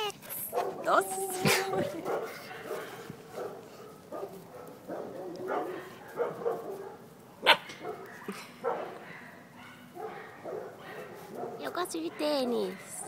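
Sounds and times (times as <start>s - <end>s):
puppies barking and yipping: 0.2s - 13.0s.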